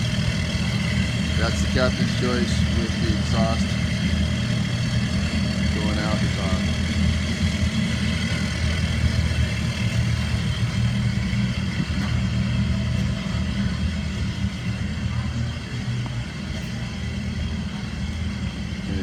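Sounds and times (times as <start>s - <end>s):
outboard motors running: 0.0s - 19.0s.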